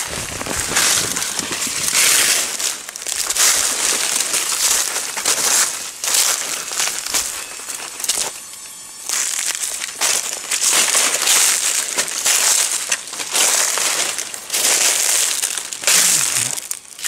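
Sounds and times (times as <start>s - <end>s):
leaves crunching and rustling: 0.0s - 17.0s.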